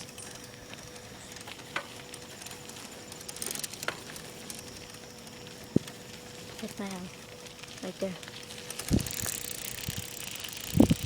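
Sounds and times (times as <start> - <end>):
bicycle tyres hissing: 0.0 - 11.0
thin steady hum: 0.0 - 11.0.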